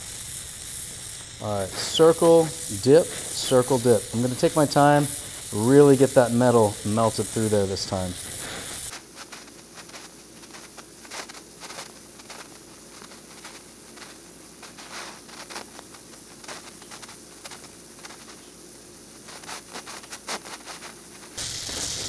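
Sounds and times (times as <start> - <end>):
torch flame hissing: 0.0 - 9.1, 9.9 - 22.0
molten metal crackles and pops: 0.0 - 18.6, 19.2 - 22.0.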